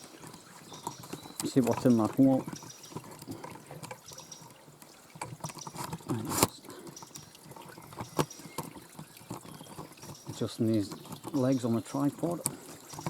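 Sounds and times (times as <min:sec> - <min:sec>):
water dripping on leaves: 0:00.0 - 0:13.0.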